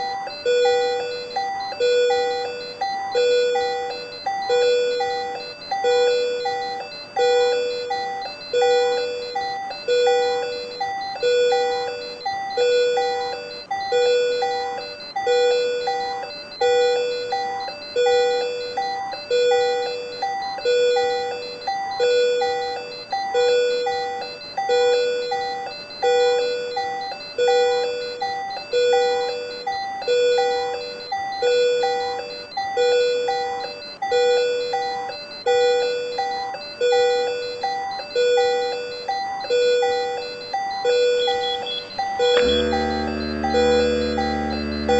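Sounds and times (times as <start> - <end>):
patient monitor alarm chime: 0.0 - 44.9.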